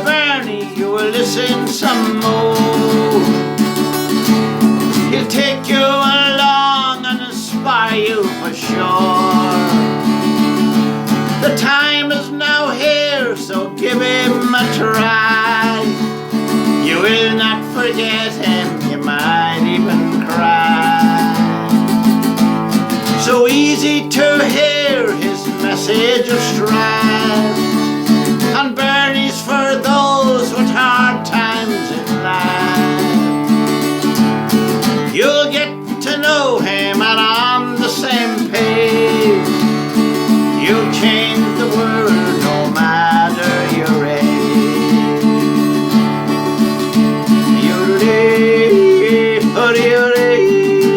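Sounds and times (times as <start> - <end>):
strummed acoustic guitar: 0.0 - 50.9.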